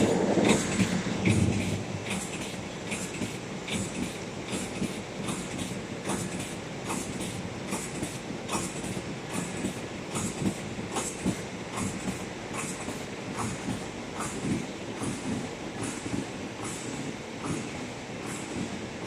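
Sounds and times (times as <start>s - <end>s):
machine mechanical clatter: 0.0s - 18.8s.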